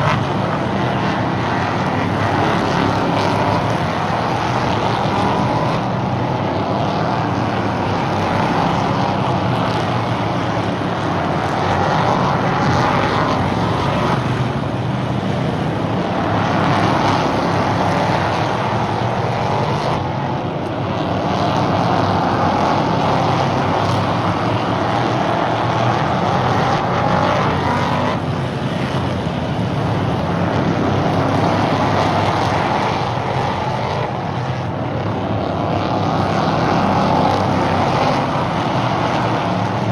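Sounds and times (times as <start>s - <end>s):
stock car engines racing: 0.0s - 39.9s.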